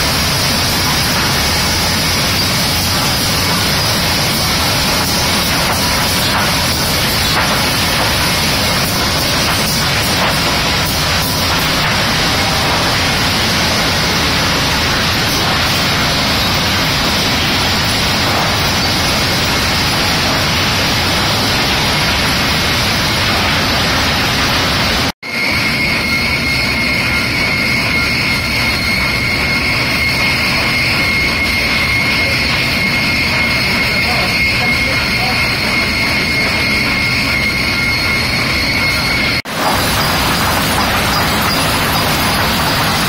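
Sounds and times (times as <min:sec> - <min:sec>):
sawmill machinery din: 0:00.0 - 0:43.0
steady high whine: 0:00.0 - 0:43.0.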